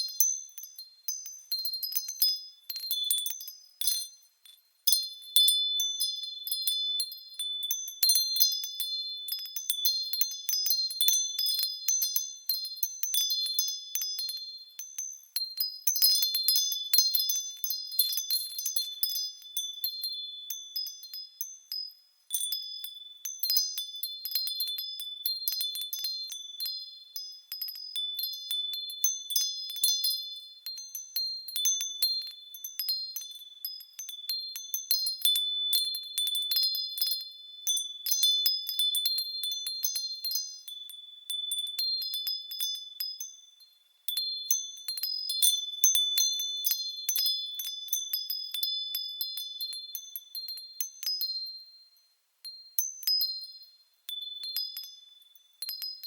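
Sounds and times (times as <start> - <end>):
wind chimes ringing: 0.0 - 56.0.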